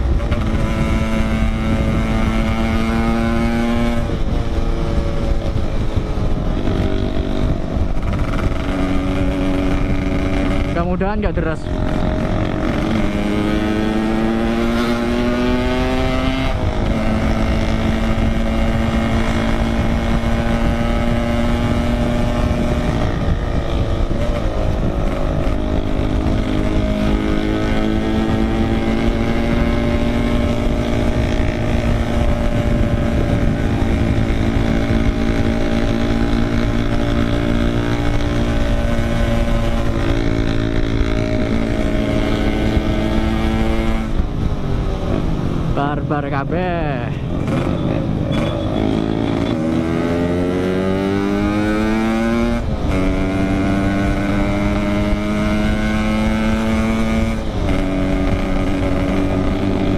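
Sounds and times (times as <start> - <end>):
road and wind rush: 0.0 - 59.9
two-stroke motorcycle engine: 0.0 - 59.9.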